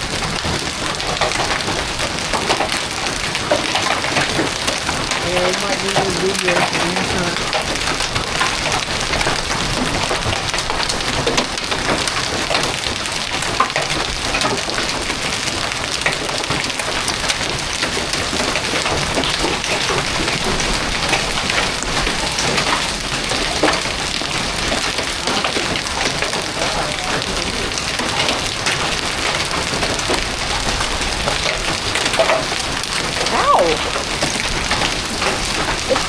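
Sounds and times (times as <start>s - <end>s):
heavy hail clattering: 0.0s - 36.0s.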